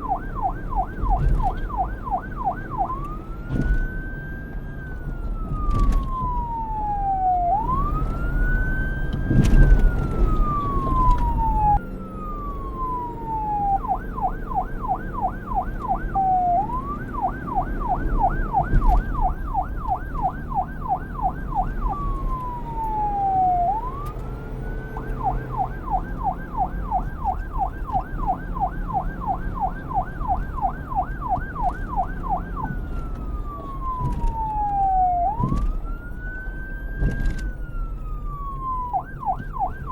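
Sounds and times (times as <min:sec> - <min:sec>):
police siren wailing and yelping: 0:00.0 - 0:39.9.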